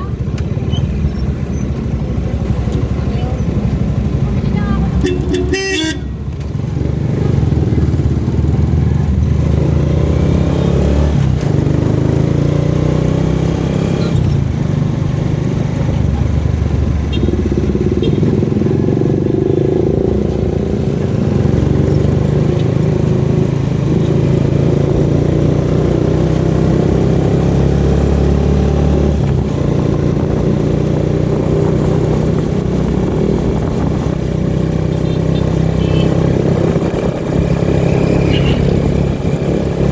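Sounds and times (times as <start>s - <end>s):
road noise: 0.0s - 39.9s
vehicle engine running: 0.0s - 39.9s.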